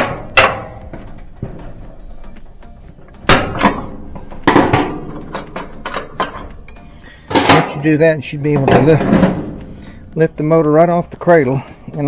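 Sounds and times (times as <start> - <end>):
metallic clicks and clanks: 0.0 - 11.4.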